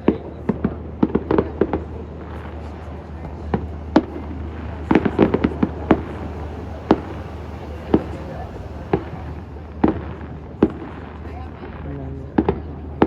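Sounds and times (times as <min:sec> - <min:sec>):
fireworks bangs and cracks: 0:00.0 - 0:13.0
steady low hum: 0:00.0 - 0:13.0.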